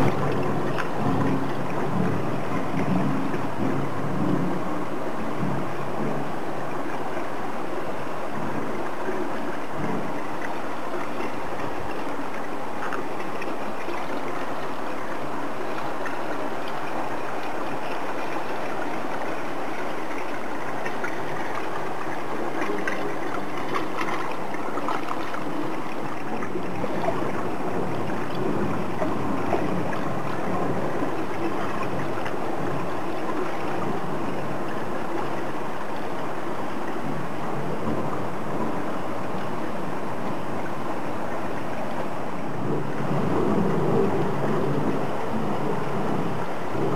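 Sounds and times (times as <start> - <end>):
running water with splashes: 0.0 - 46.9.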